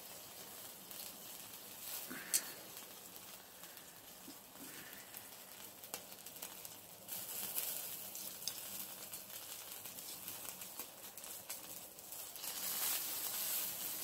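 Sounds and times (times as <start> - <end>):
sausages sizzling on a grill: 0.0 - 14.0.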